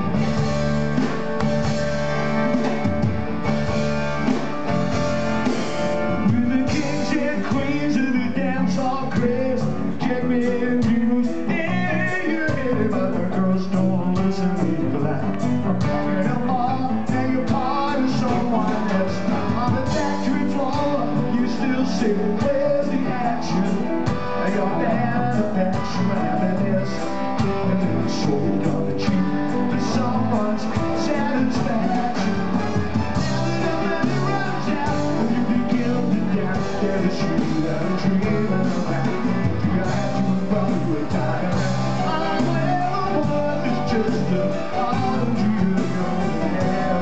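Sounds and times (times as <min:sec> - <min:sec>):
drums: 0:00.0 - 0:47.0
electric guitar: 0:00.0 - 0:47.0
man singing: 0:05.9 - 0:47.0.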